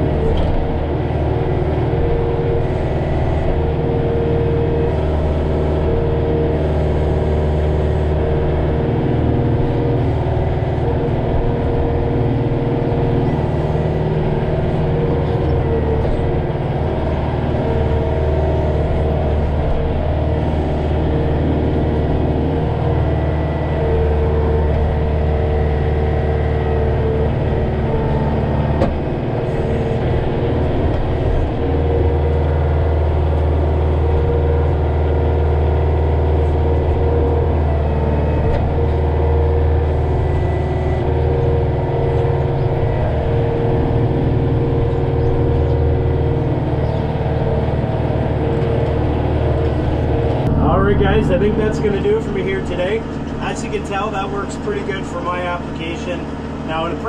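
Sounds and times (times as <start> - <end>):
hydraulic whine: 0.0 - 57.0
tractor diesel engine running: 0.0 - 57.0.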